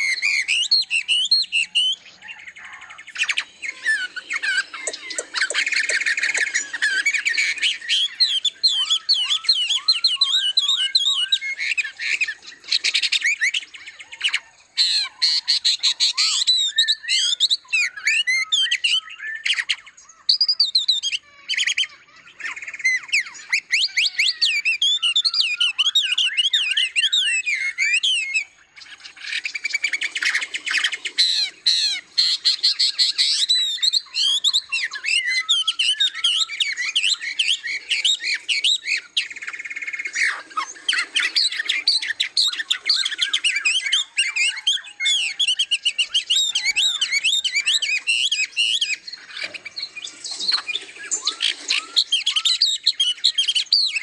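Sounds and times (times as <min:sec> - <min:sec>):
songbirds chirping and singing: 0:00.0 - 0:54.0.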